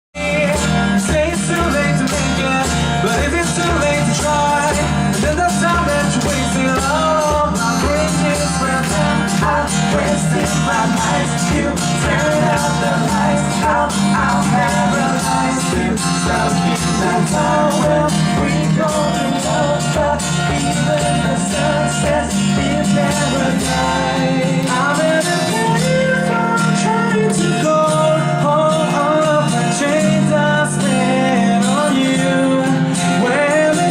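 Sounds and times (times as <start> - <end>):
guitar: 0.1 - 33.9
steady drum beat: 0.2 - 28.1.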